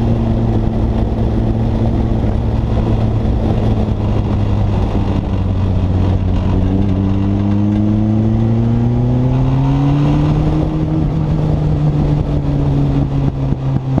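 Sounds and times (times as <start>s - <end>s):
car engine pulling: 0.0s - 14.0s.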